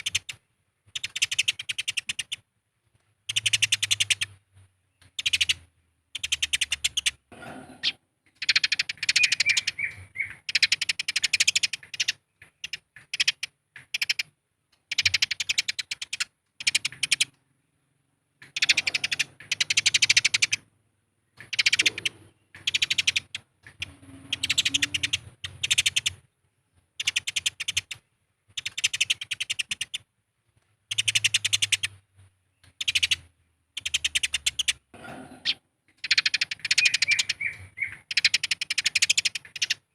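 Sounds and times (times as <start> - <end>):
sparrows chattering harshly: 0.0 - 2.4, 3.2 - 17.4, 18.4 - 26.3, 27.0 - 30.0, 30.9 - 32.0, 32.6 - 39.9.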